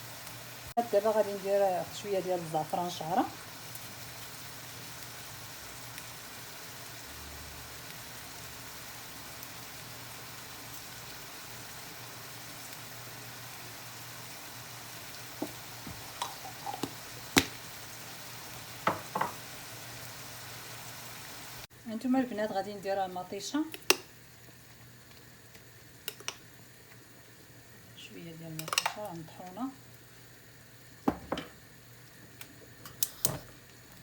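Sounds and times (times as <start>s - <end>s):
food frying in oil: 0.0s - 34.0s.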